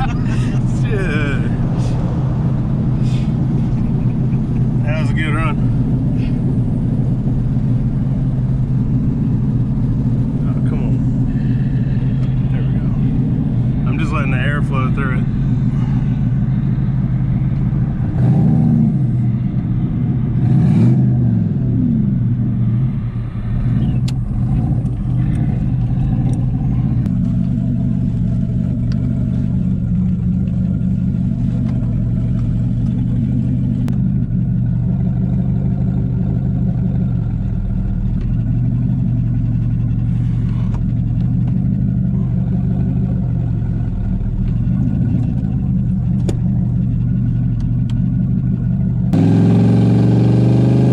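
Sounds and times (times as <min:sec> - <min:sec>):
truck engine rumbling with revs: 0:00.0 - 0:50.9.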